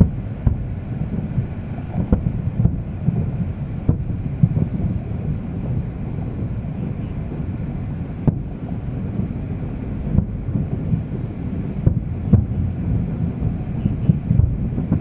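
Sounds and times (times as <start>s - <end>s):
distant fireworks banging: 0.0s - 15.0s
wind rumble on microphone: 0.0s - 15.0s.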